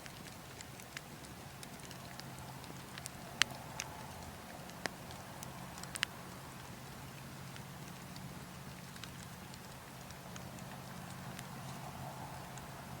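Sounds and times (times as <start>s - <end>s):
wood logs crackling and popping: 0.0s - 13.0s.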